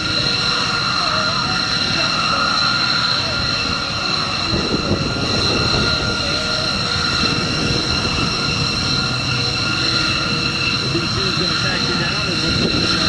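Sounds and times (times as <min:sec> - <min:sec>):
jet engines whining and rumbling: 0:00.0 - 0:13.0.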